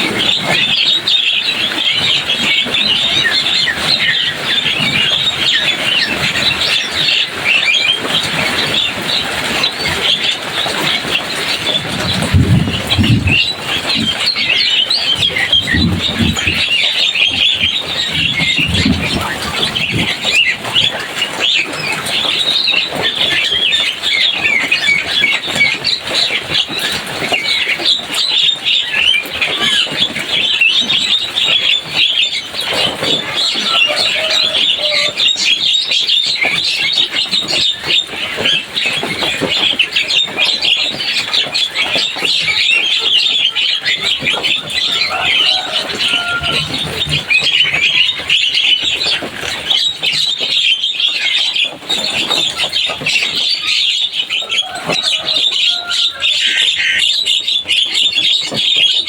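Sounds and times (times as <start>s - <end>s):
bird singing and chattering: 0.0s - 59.0s.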